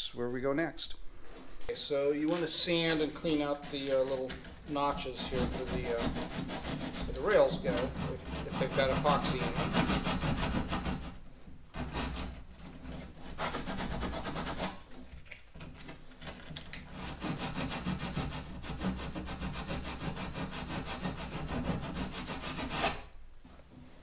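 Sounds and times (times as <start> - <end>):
hand sanding wood: 1.8 - 15.0, 16.8 - 23.1.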